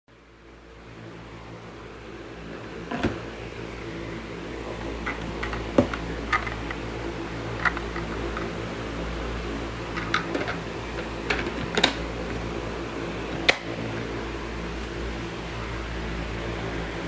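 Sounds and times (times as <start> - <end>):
electric kettle humming: 0.2 - 17.0.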